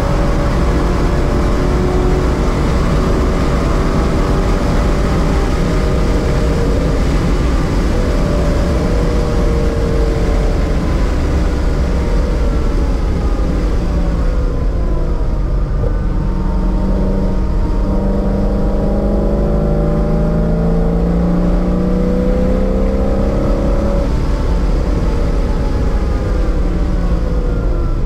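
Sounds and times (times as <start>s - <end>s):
car engine from inside cabin: 0.0s - 28.0s.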